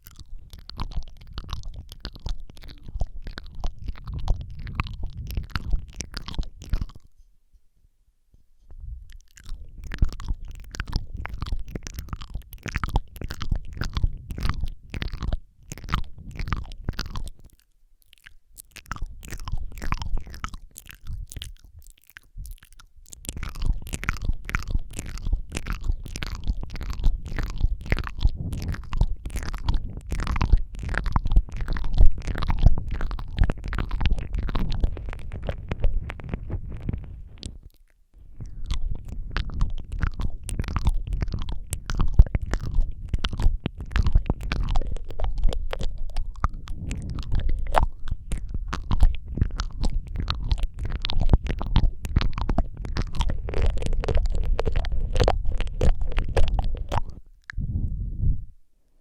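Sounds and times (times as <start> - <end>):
lip smacks: 0.0 - 7.2, 8.7 - 58.0
tongue clicks: 0.0 - 7.2, 9.0 - 57.7.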